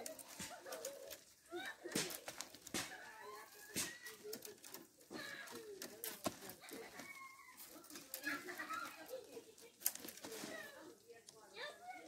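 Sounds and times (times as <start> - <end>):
cane strips clicking and rustling: 0.0 - 12.0.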